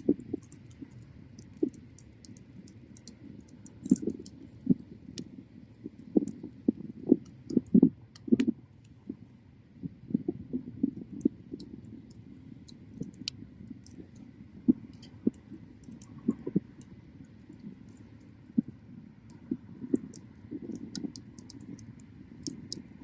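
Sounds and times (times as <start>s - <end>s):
bonfire pops and snaps: 0.0s - 5.3s, 5.9s - 8.6s, 10.9s - 18.0s, 19.3s - 23.0s
flutter of flames: 0.0s - 23.0s.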